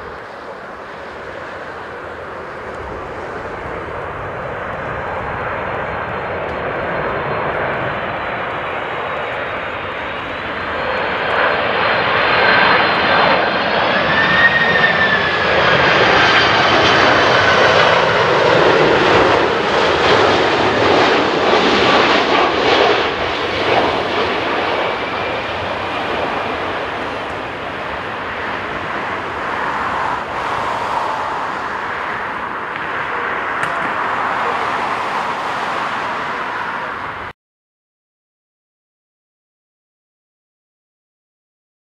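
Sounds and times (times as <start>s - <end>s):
jet engine roar: 0.0s - 37.4s.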